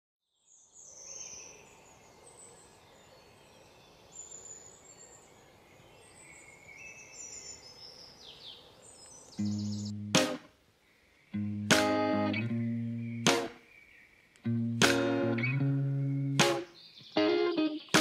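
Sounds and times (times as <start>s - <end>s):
small birds chirping: 0.4s - 18.0s.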